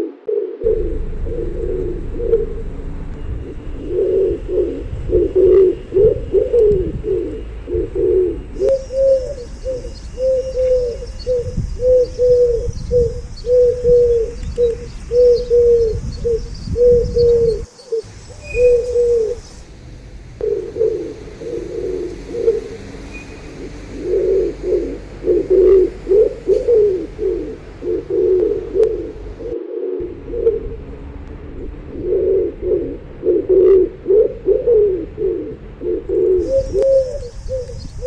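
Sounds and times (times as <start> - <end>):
pigeons cooing: 0.0 - 19.5, 20.4 - 38.0.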